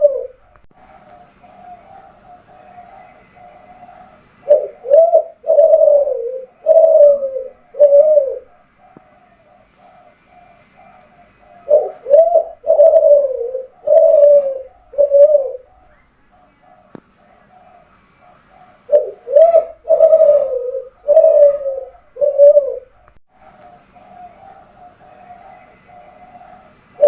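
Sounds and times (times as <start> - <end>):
dove cooing: 0.0 - 27.0.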